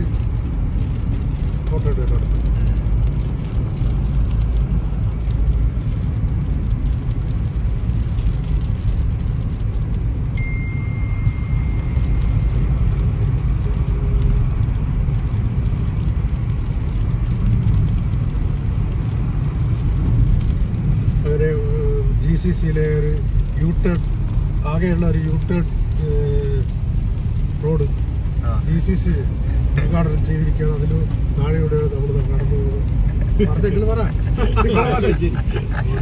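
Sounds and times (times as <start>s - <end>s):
car tyres and engine on wet road: 0.0s - 36.0s.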